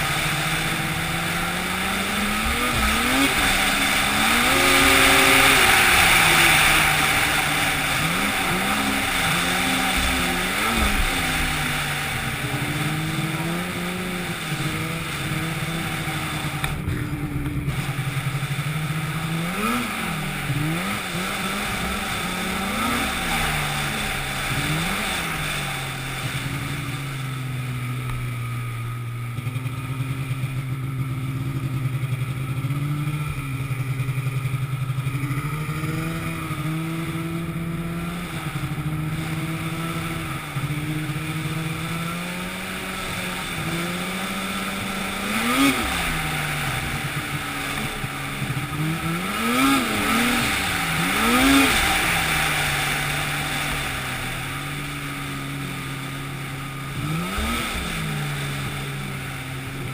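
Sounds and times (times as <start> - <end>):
engine running: 0.0 - 59.9
steady rushing noise: 0.0 - 59.9.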